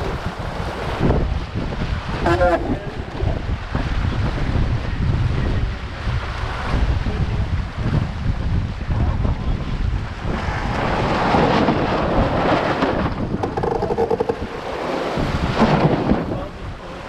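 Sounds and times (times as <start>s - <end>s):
water rushing along a hull: 0.0s - 17.0s
wind buffeting microphone: 0.0s - 17.0s.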